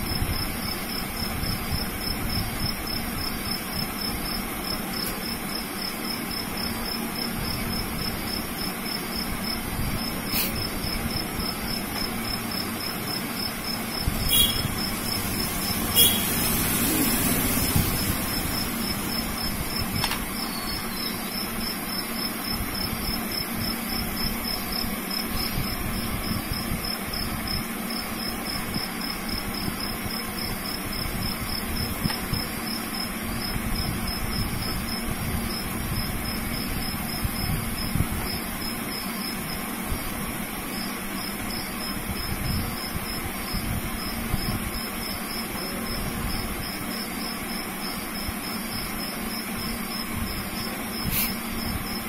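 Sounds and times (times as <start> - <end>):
constant hiss: 0.0 - 52.0
insect calling in rapid pulses: 0.0 - 52.0.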